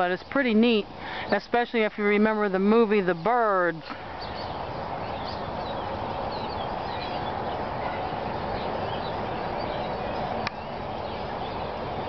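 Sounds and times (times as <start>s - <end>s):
flock of blackbirds chattering: 0.0s - 12.0s.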